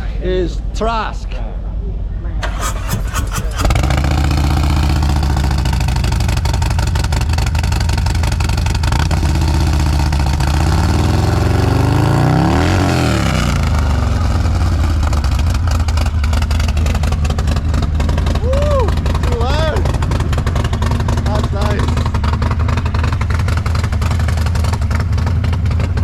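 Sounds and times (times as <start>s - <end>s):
motorcycle engine idling and revving: 2.4s - 26.0s.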